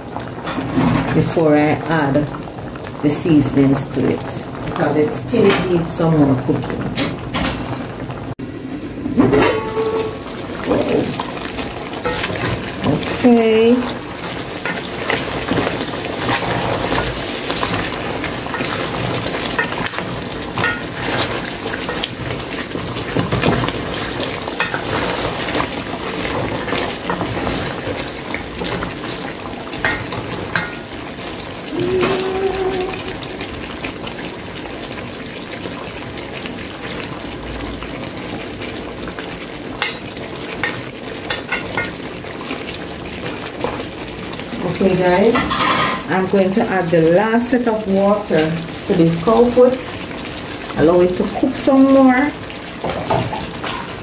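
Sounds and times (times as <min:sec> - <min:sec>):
pot hissing on stove: 0:00.1 - 0:54.0.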